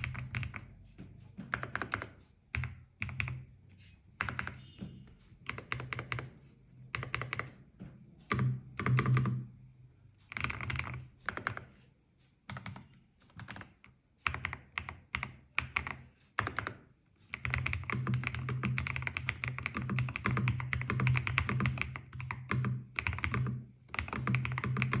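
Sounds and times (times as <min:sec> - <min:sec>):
mechanical keyboard typing: 0:00.0 - 0:00.7, 0:01.5 - 0:03.5, 0:04.2 - 0:04.8, 0:05.4 - 0:07.6, 0:08.2 - 0:09.5, 0:10.2 - 0:11.8, 0:12.4 - 0:25.0.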